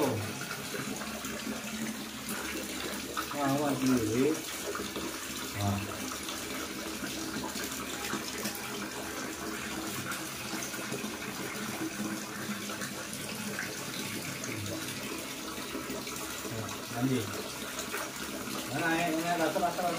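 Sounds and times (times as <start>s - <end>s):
tap water pouring into basin: 0.0s - 19.9s.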